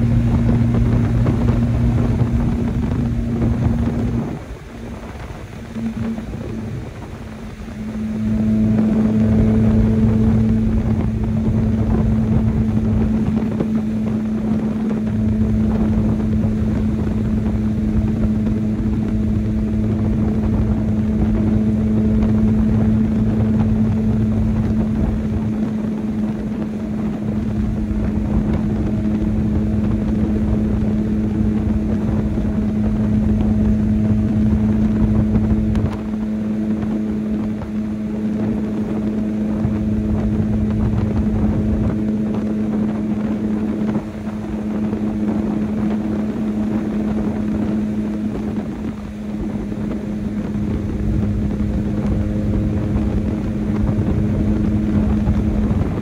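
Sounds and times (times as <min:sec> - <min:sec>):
pickup engine droning under load: 0:00.0 - 0:56.0.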